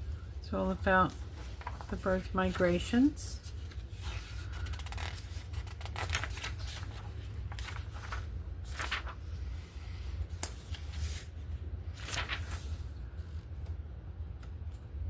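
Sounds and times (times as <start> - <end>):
magazine pages turning: 0.9 - 13.8.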